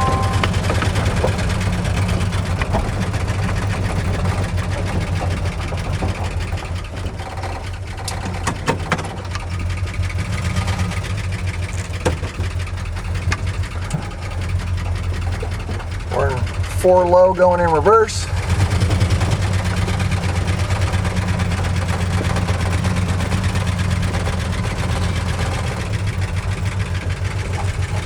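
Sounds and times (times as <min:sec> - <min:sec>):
car engine running at low revs: 0:00.0 - 0:28.0.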